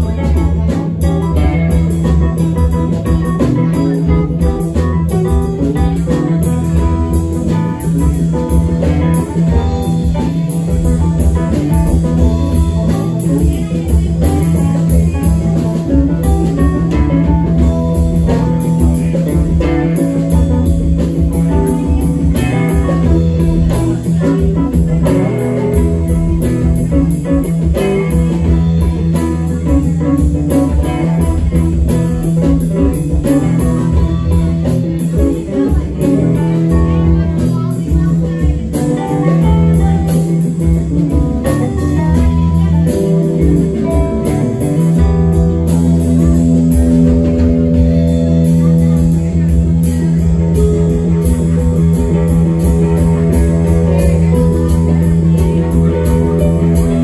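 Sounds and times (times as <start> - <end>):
bass guitar: 0.0 - 57.0
drum kit: 0.0 - 57.0
electric guitars: 0.0 - 57.0
keyboard: 0.0 - 57.0.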